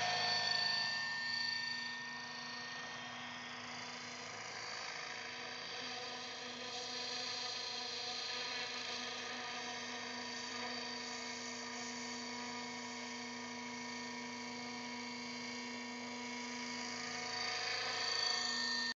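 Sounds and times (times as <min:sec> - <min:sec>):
model helicopter rotor whine: 0:00.0 - 0:19.0.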